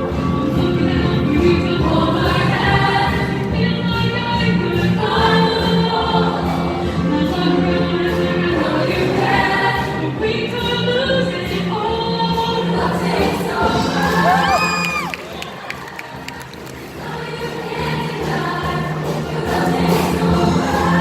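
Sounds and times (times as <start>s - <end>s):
choir singing: 0.0s - 21.0s
musical accompaniment: 0.0s - 21.0s.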